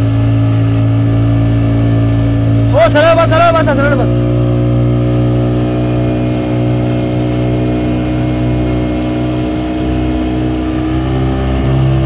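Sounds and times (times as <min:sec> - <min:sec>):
outboard motor running: 0:00.0 - 0:12.0
rushing water: 0:00.0 - 0:12.0
wind: 0:00.0 - 0:12.0.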